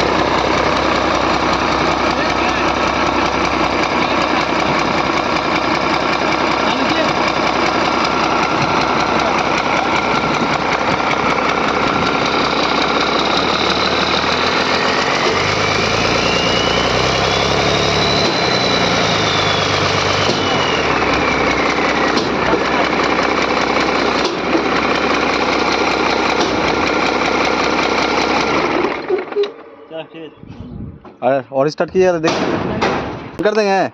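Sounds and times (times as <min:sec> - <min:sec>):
engine revving with whine: 0:00.0 - 0:29.5.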